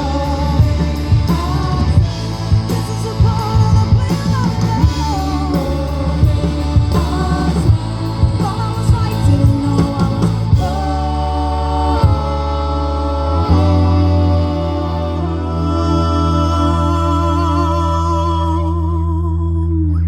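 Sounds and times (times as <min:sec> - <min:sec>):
live rock band playing: 0:00.0 - 0:17.3.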